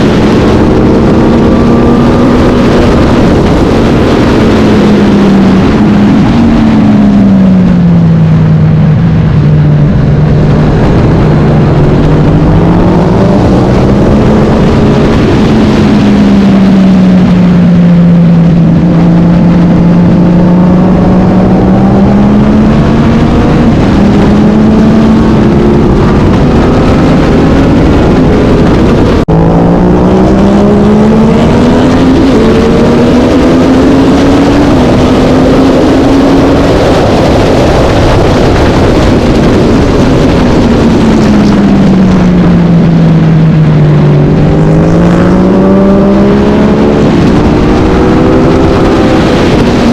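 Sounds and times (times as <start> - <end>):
racing motorcycle engine revving: 0.0 - 49.9.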